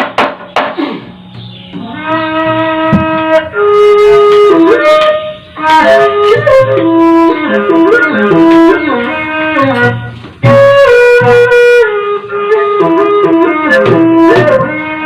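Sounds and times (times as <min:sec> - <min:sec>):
bamboo flute melody: 0:00.8 - 0:15.0.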